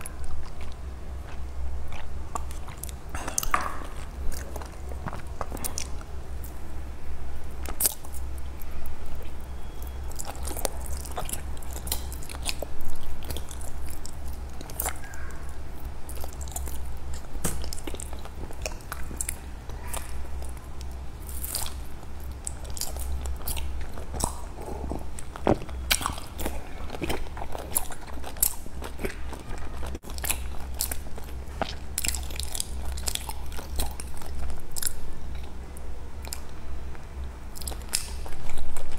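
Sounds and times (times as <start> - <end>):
mouth chewing with smacks and clicks: 0.0 - 6.6, 7.6 - 35.6, 36.2 - 38.9.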